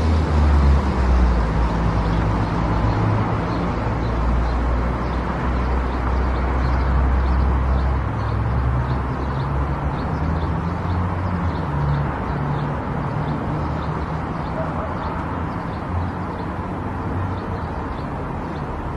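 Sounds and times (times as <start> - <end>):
car road and engine noise: 0.0 - 18.9.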